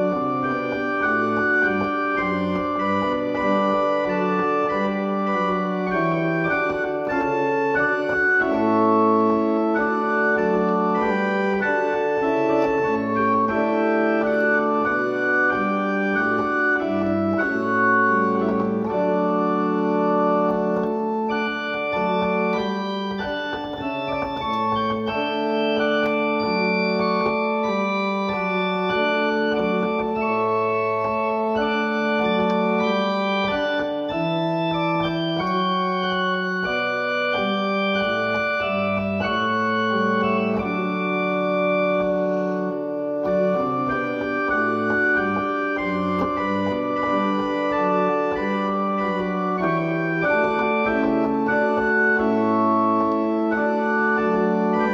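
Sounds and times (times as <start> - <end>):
organ playing hymn chords: 0.0 - 54.9.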